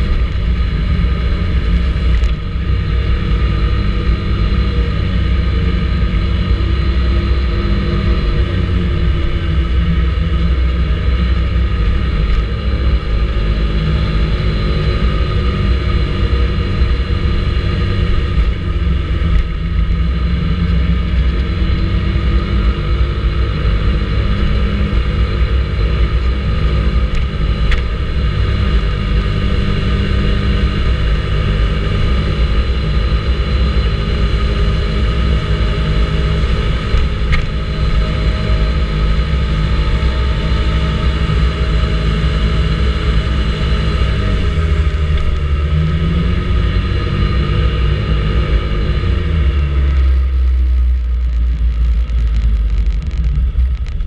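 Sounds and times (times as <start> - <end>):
scooter engine cruising: 0.0 - 54.0
wind rumble on microphone: 0.0 - 54.0.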